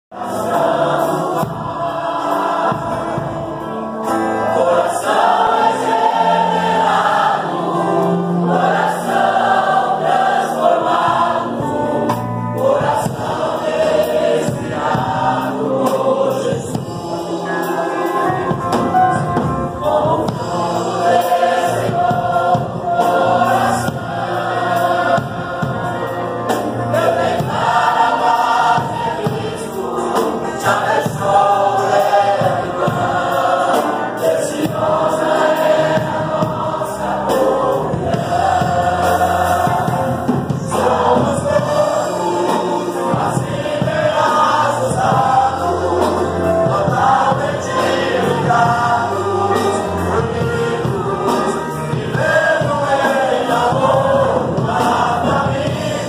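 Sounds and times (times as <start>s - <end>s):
keyboard accompaniment: 0.1s - 56.0s
men's choir singing a hymn: 0.1s - 56.0s.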